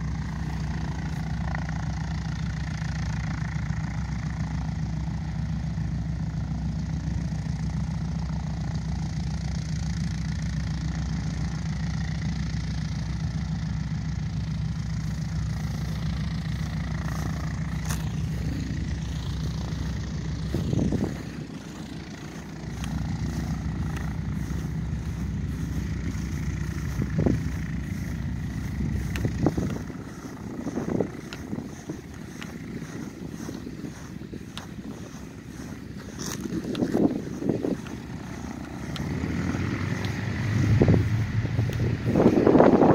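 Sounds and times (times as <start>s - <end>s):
piston engine running: 0.0s - 42.9s.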